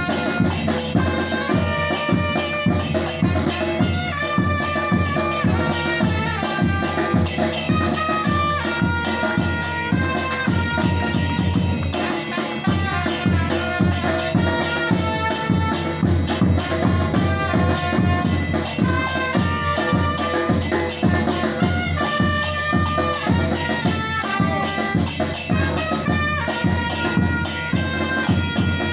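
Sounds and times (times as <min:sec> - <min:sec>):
percussion group drumming: 0:00.0 - 0:28.9
shaker or tambourine: 0:00.0 - 0:28.9.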